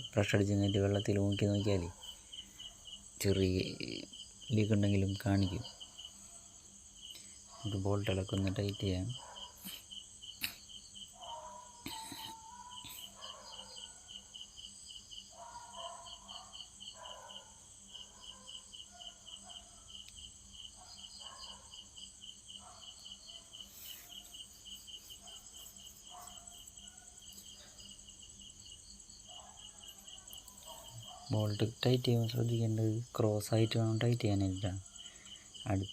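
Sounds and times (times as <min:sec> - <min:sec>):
faint background sounds: 0:00.0 - 0:35.9
insects chirping: 0:00.0 - 0:35.9.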